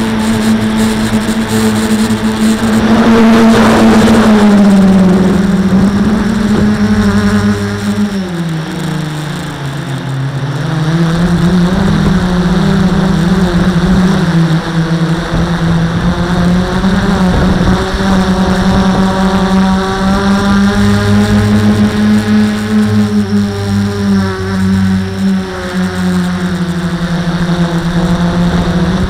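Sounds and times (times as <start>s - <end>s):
drone propellers buzzing: 0.0s - 29.0s.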